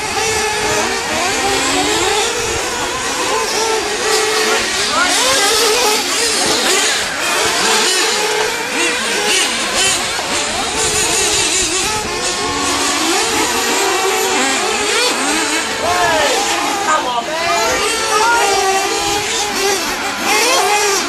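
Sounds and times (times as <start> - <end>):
rc car engines screaming: 0.0 - 21.0.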